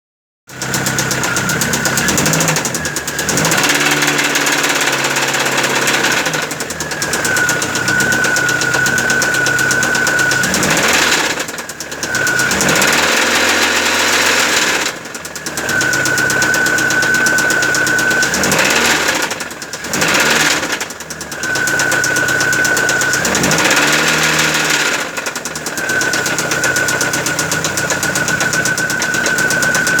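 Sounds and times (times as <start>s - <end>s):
car engine knocking and revving: 0.5s - 30.0s.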